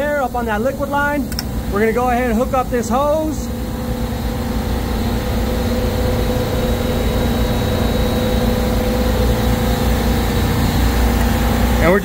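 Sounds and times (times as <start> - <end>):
refrigeration compressor drone: 0.0 - 12.0.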